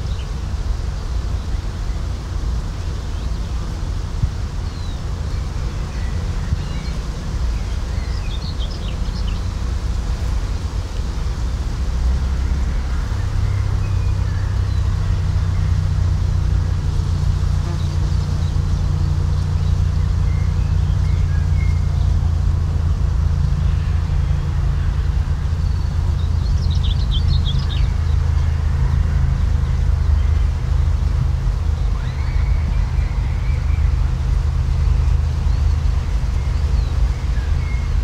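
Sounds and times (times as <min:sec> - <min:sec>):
birds chirping: 0:03.0 - 0:38.0.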